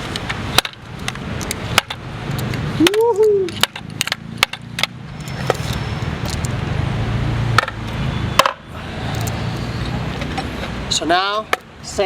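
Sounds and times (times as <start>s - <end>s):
vehicle engine humming: 0.0s - 11.8s.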